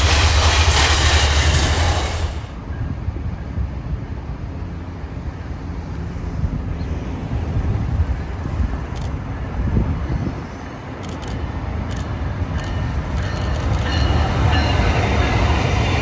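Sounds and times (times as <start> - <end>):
city traffic rumble: 0.0 - 16.0
train approaching: 0.0 - 16.0.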